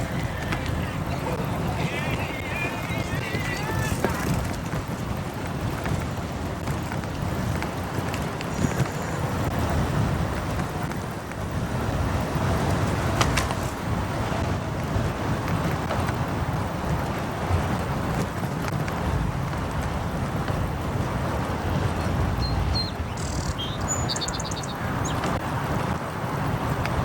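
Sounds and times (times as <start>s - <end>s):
cars passing: 0.0s - 27.0s
motorcycle riding: 0.0s - 27.0s.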